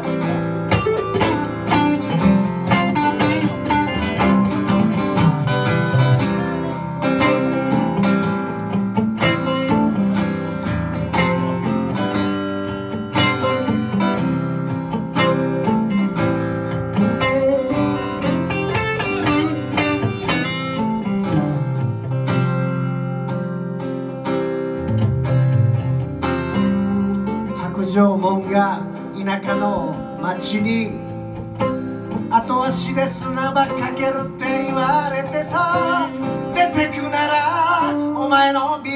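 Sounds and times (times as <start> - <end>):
acoustic guitar strumming chords: 0.0 - 38.9
electric guitar picking melody: 0.0 - 38.9.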